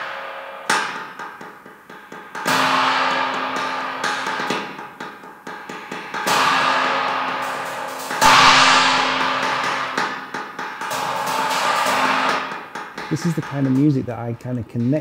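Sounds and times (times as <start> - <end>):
cymbal taps and crashes: 0.0 - 15.0.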